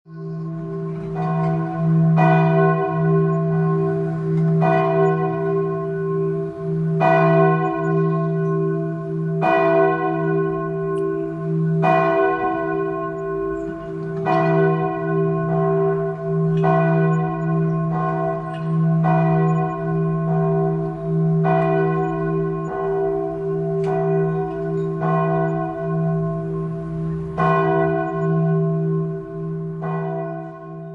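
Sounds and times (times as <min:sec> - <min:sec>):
church bell tolling: 0:00.1 - 0:30.9.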